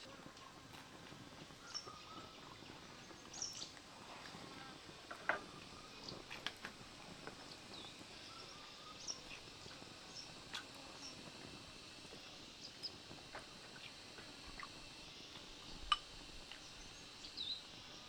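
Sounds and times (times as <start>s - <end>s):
faint outdoor ambience: 0.0s - 18.0s.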